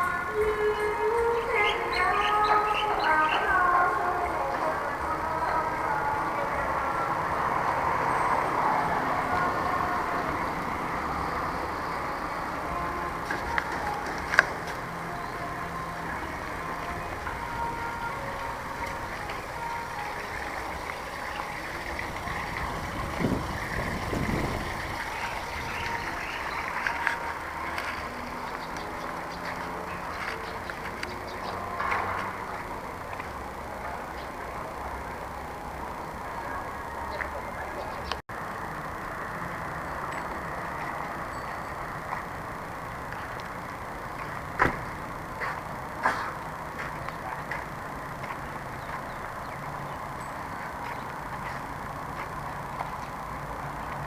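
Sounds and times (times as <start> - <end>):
vehicle rumble and hiss: 0.0 - 54.0.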